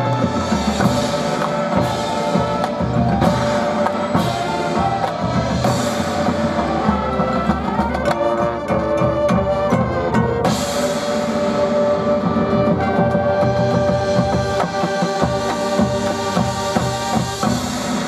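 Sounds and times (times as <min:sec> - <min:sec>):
marching band playing: 0:00.0 - 0:18.0
percussion strikes: 0:00.0 - 0:18.0.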